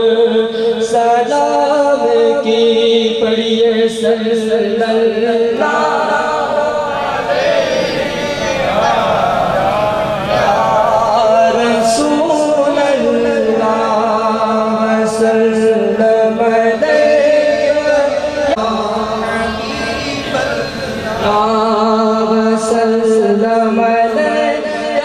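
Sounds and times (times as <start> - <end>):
man chanting devotional poem: 0.0 - 25.0.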